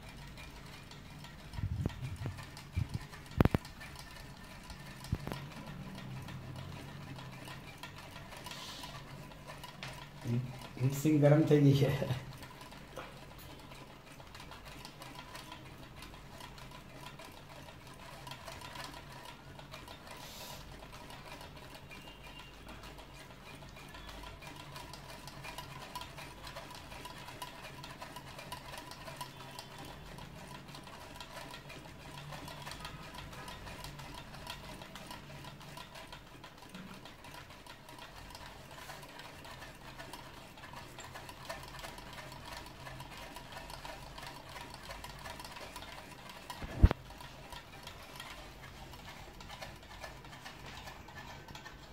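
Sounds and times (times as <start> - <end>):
fast light mechanical ticking: 0.0 - 51.9.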